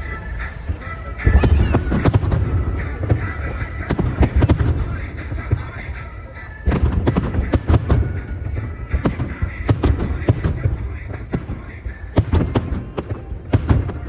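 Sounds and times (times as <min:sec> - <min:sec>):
fireworks booms and crackles: 0:00.0 - 0:14.0.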